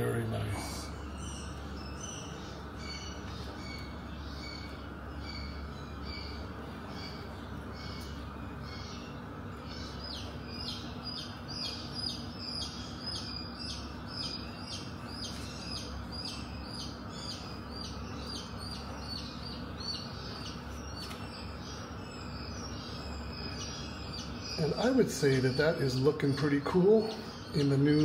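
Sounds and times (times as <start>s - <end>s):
bird chirping: 0.0s - 28.0s
low background hum: 0.0s - 28.0s.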